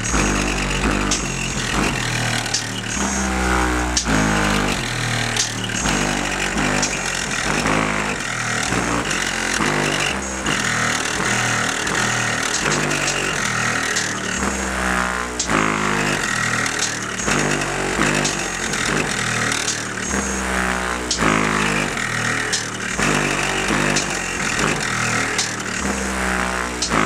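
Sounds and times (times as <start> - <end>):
loud bass music from subwoofers: 0.0 - 27.0
rear wing rattling and buzzing: 0.0 - 27.0.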